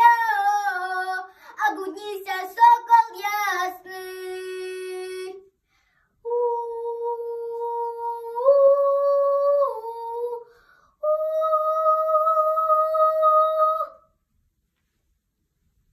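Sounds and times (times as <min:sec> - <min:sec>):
girl singing unaccompanied: 0:00.0 - 0:05.6, 0:06.2 - 0:14.2.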